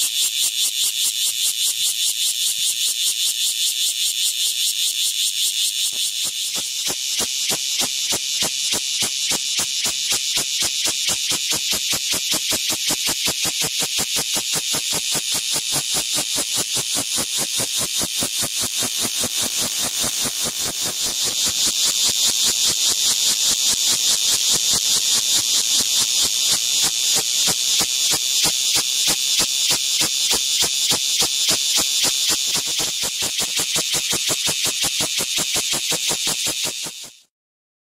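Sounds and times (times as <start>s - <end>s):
cicada buzzing: 0.0s - 37.2s.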